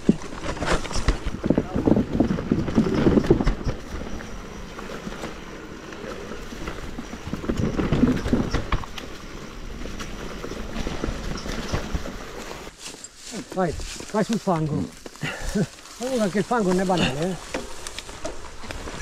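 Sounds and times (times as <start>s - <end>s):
bike knocking and rattling: 0.0s - 19.0s
bike tyres rolling over dirt and stones: 0.0s - 19.0s.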